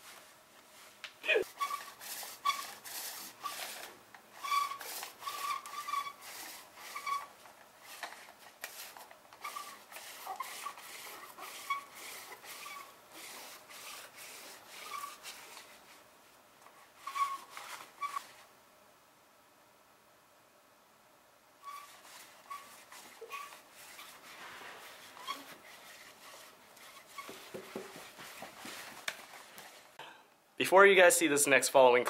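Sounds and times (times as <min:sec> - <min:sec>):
lint roller rolling over fabric: 0:00.0 - 0:18.5, 0:21.6 - 0:30.0.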